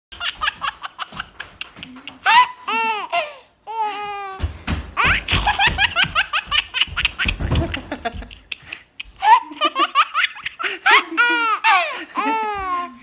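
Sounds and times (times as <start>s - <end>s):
baby laughing: 0.1s - 4.4s, 5.0s - 13.0s.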